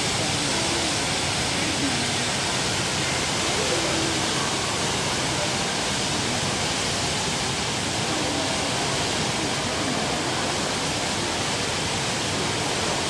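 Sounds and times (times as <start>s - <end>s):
rushing waterfall: 0.0s - 13.0s.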